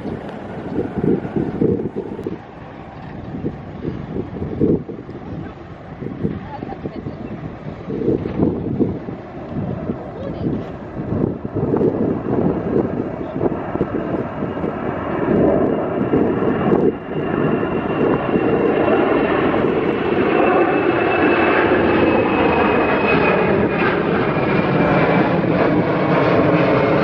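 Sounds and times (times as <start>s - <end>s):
jet engines roaring overhead: 0.0s - 27.0s.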